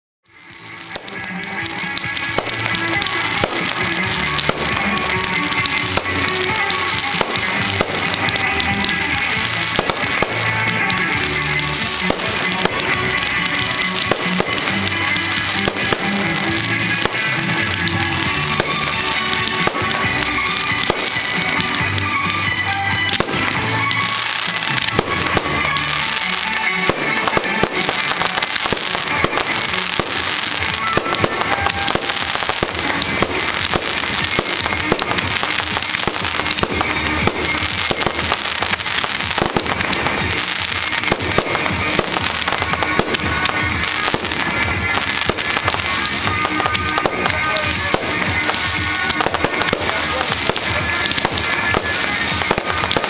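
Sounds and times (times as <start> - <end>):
music playing: 0.2 - 53.0
fireworks bangs and pops: 0.3 - 53.0.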